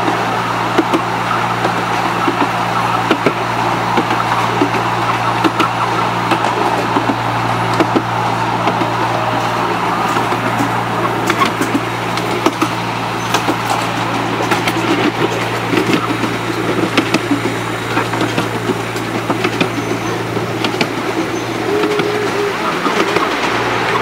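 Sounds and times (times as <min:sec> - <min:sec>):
small locomotive droning: 0:00.0 - 0:24.0
wheels clicking on track: 0:00.0 - 0:24.0.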